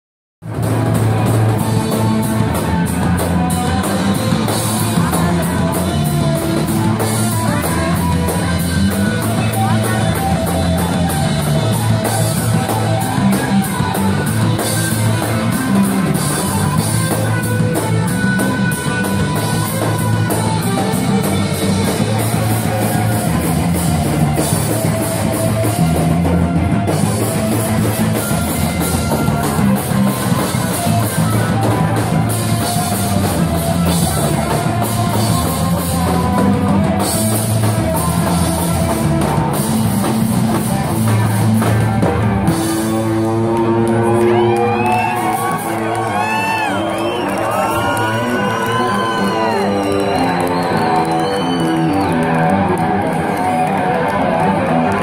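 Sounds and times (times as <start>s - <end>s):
electric guitar: 0.4s - 55.0s.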